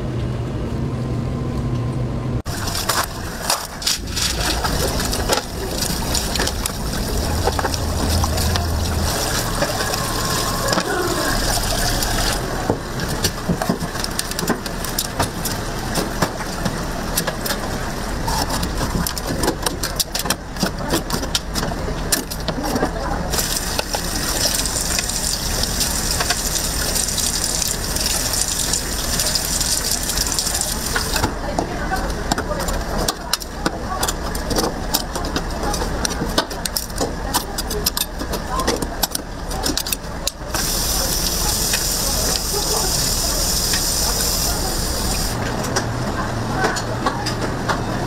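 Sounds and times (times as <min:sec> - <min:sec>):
running gushing water: 0:02.5 - 0:45.5.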